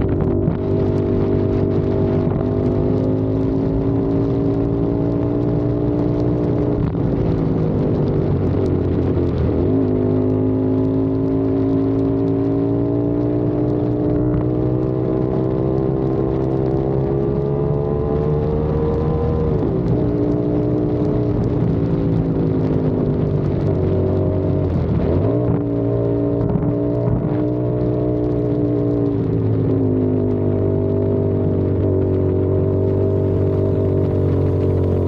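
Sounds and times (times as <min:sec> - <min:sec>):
motorcycle engine running: 0:00.0 - 0:35.0
wind buffeting microphone: 0:00.0 - 0:35.0.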